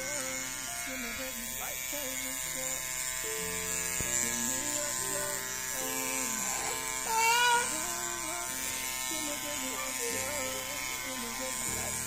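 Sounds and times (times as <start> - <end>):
background music: 0.0 - 12.0
electric hair clippers buzzing: 0.0 - 12.0.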